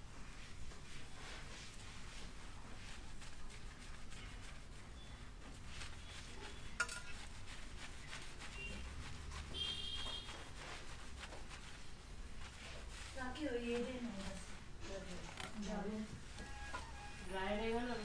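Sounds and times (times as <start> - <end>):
squishy rubbing of lathered hair: 0.0 - 18.0.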